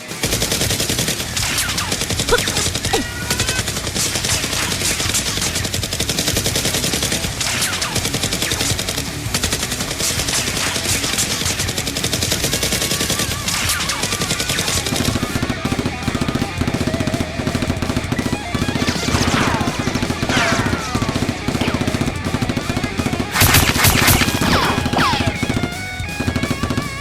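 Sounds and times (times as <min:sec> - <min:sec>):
automatic gunfire: 0:00.0 - 0:27.0.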